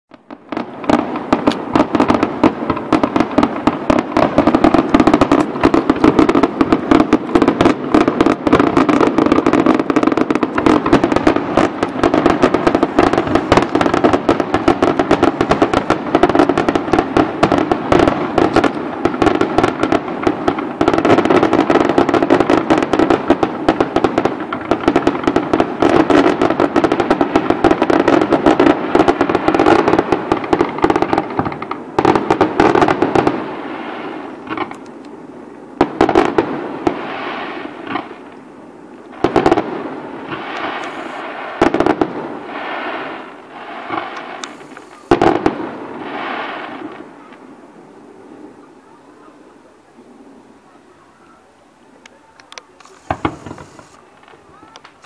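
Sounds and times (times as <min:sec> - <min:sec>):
fireworks bangs and crackles: 0:00.1 - 0:55.0.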